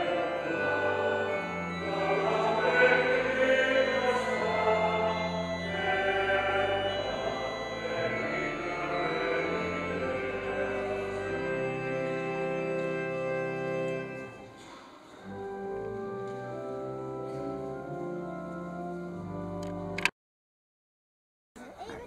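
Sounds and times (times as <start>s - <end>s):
pipe organ chords: 0.0s - 20.1s.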